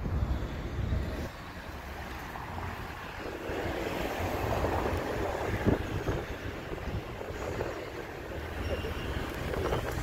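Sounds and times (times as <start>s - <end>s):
rumble of wheels on rails: 0.0s - 10.0s.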